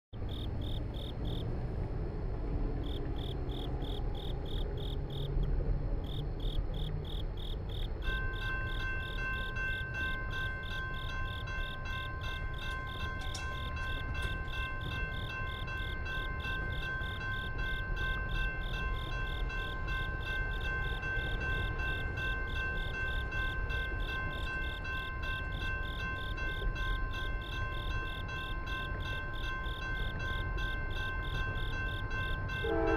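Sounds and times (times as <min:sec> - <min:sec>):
crickets chirping: 0:00.2 - 0:01.6, 0:02.7 - 0:32.9.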